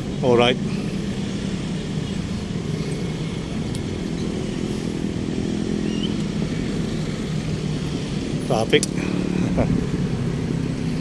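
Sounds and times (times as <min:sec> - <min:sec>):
road traffic engines humming: 0:00.0 - 0:11.0.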